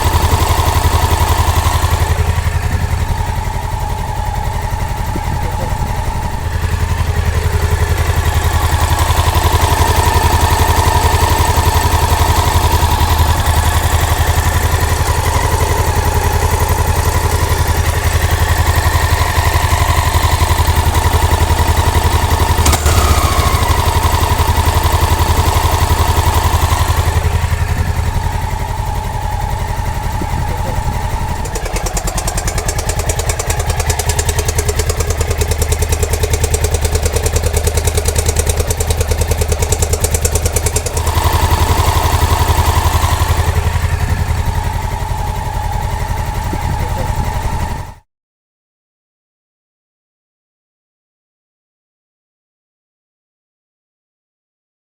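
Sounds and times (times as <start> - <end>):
motorcycle engine clacking: 0.0 - 48.0.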